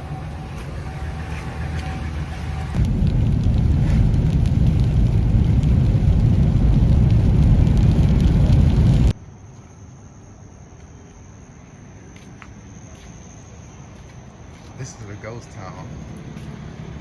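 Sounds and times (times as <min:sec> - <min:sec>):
vehicle road noise rumble: 0:00.0 - 0:17.0.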